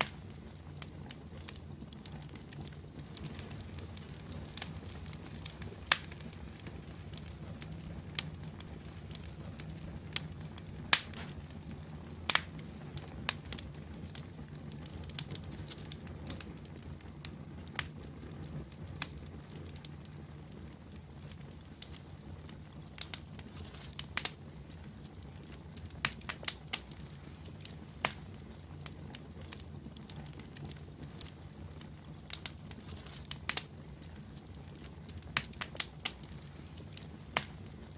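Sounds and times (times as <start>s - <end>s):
burning wood crackling and popping: 0.0s - 37.9s
fire flames rumbling: 0.0s - 37.9s.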